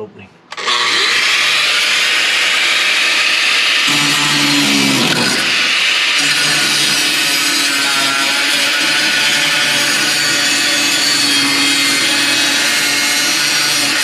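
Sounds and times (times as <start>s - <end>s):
angle grinder cutting steel: 0.5s - 14.0s.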